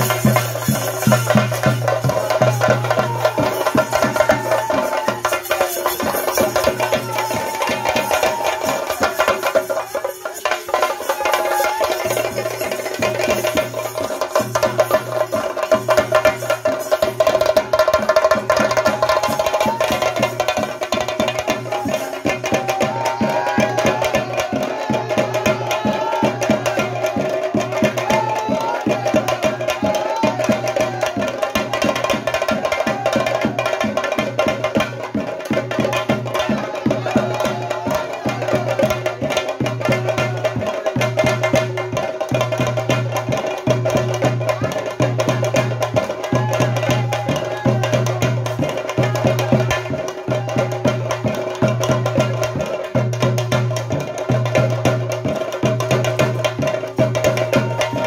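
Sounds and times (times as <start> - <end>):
drums beaten fast: 0.0 - 58.0.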